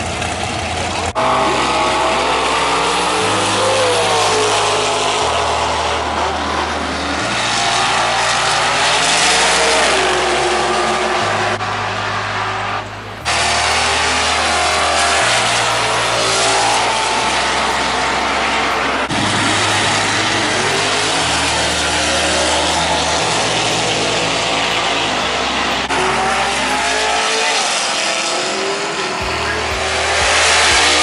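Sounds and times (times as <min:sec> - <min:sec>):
car engines revving high: 0:00.0 - 0:31.0
tyre noise: 0:05.8 - 0:31.0.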